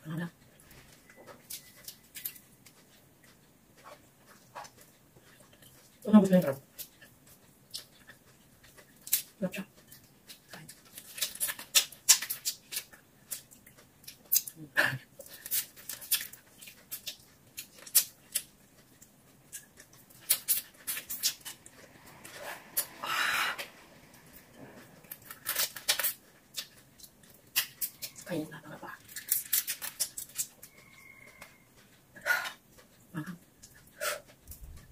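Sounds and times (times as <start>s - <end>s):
chewing clicks: 1.2s - 14.6s, 15.2s - 22.9s, 25.1s - 28.3s, 29.0s - 34.9s.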